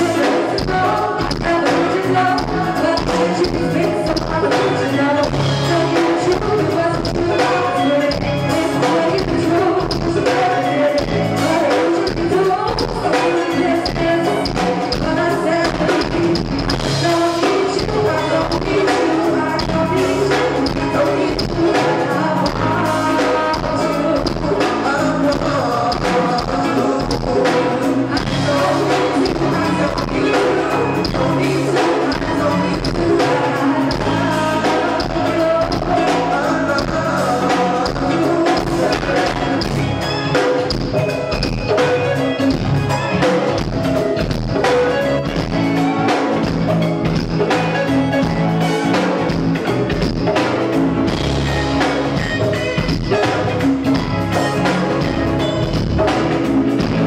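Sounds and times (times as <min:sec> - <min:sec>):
woman singing: 0:00.0 - 0:50.6
drum and percussion beat: 0:00.0 - 0:57.0
keyboard chords: 0:00.0 - 0:57.0.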